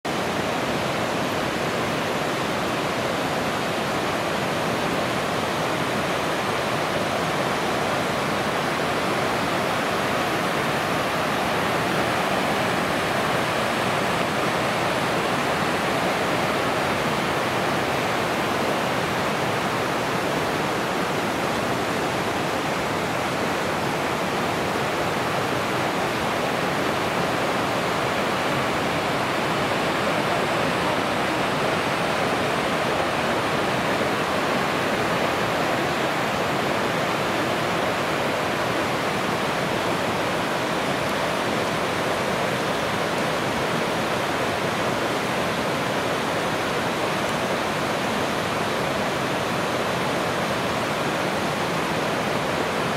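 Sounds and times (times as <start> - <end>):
fast-flowing river water rushing: 0.0 - 52.9.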